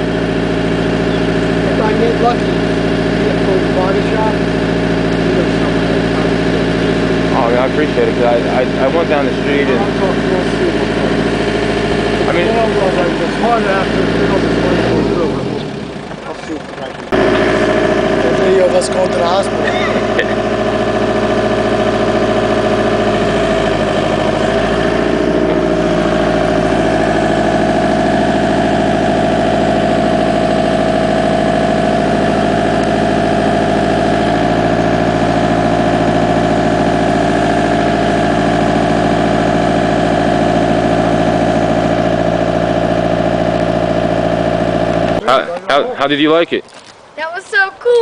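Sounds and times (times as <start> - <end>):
backhoe diesel engine running: 0.0 - 48.0.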